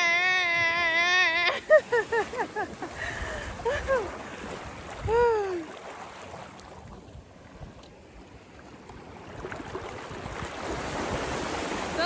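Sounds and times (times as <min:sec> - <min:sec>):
surf: 0:00.0 - 0:12.0
wind: 0:00.0 - 0:12.0.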